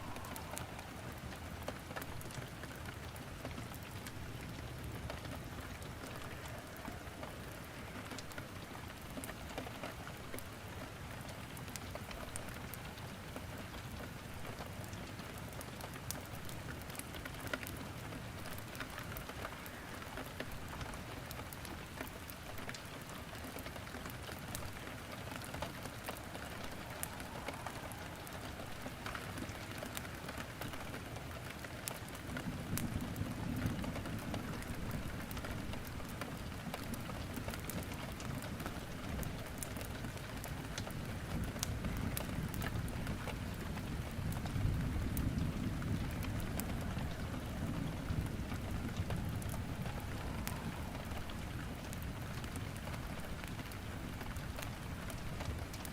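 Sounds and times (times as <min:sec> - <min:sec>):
rain falling: 0:00.0 - 0:55.9
wood fire crackling and popping: 0:00.0 - 0:55.9.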